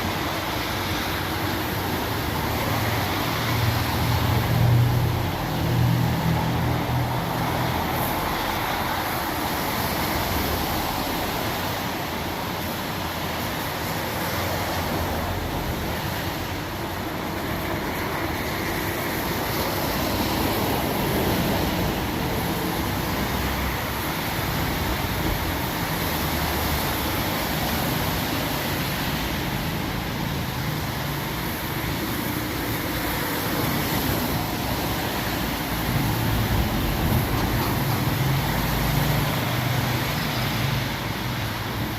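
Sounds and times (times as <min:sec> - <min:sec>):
heavy rain hissing: 0:00.0 - 0:41.9
traffic on wet road: 0:00.0 - 0:41.9.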